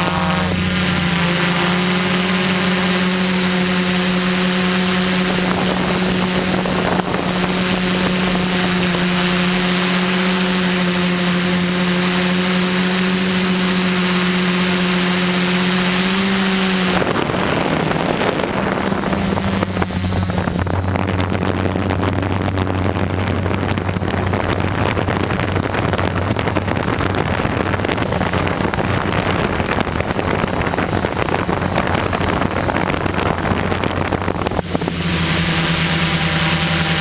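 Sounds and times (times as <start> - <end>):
drone propellers humming: 0.0 - 37.0
wind noise: 0.0 - 37.0.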